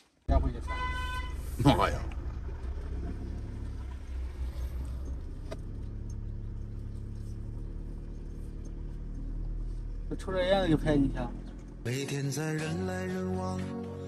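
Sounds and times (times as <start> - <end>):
van engine humming from inside cab: 0.3 - 13.6.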